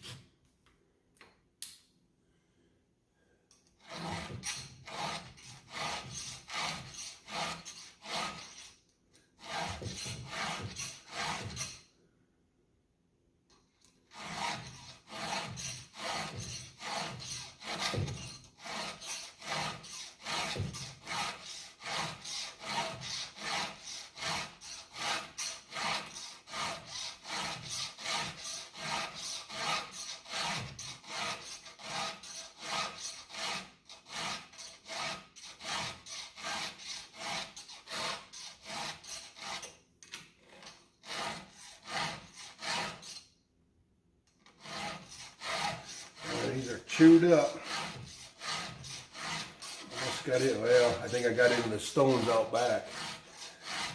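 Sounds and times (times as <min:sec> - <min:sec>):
file rasping on chainsaw chain: 0:03.8 - 0:11.9, 0:13.8 - 0:39.8, 0:40.5 - 0:43.4, 0:44.4 - 0:53.9.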